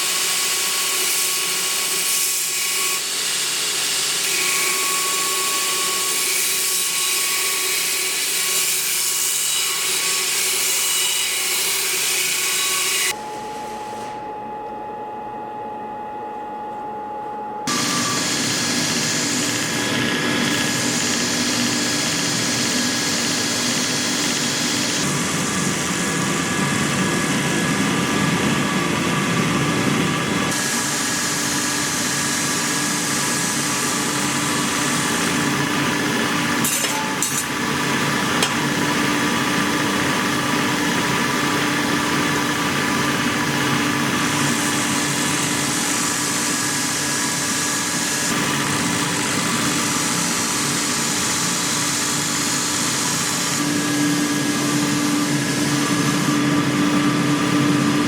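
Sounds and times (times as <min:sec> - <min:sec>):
workshop machine running: 0:00.0 - 0:58.0.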